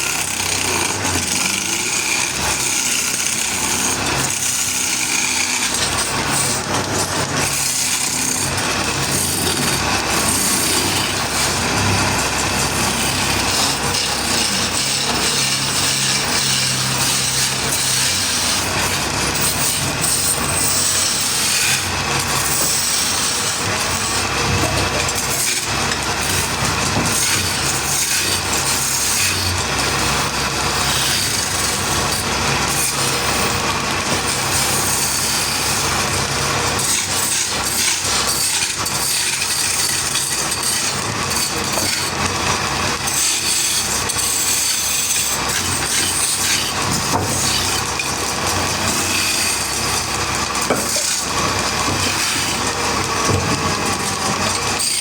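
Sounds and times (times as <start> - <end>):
machinery cutting wood: 0.0 - 55.0.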